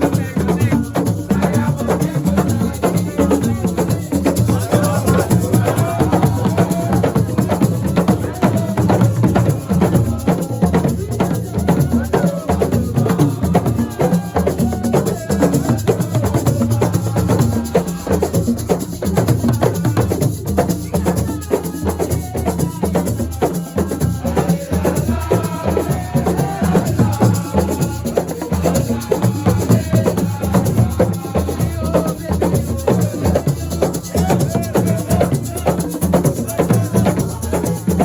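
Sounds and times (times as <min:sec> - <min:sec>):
drums and shakers: 0:00.0 - 0:38.0.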